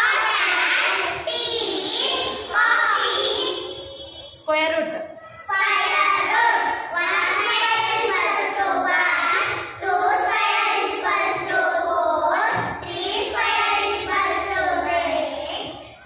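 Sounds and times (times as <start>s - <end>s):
girls chanting in unison: 0.0s - 3.8s, 5.4s - 16.0s.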